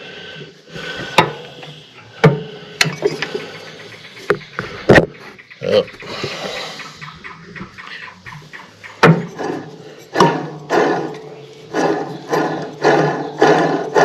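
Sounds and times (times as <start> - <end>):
pulley knocking and rasping: 0.8 - 5.2, 5.8 - 14.0.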